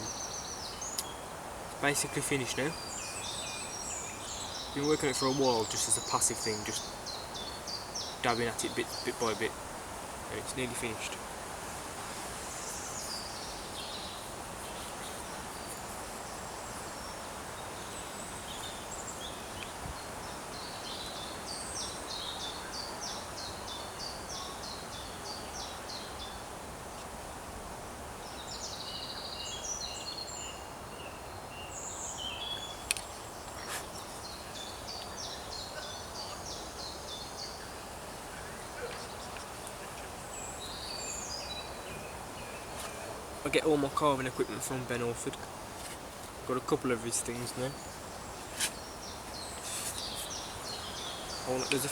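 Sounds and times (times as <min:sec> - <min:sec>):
songbirds singing: 0:00.0 - 0:27.2, 0:27.8 - 0:51.9
outdoor background hiss: 0:00.0 - 0:51.9.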